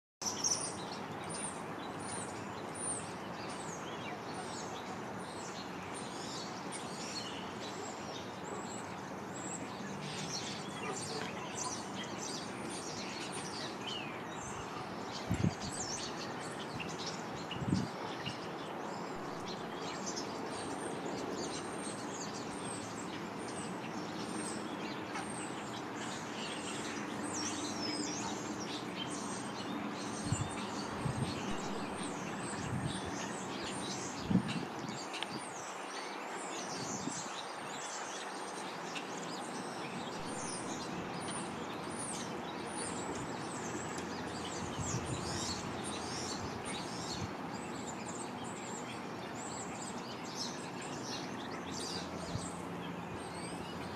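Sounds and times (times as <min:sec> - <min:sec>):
small birds chirping: 0:00.2 - 0:53.9.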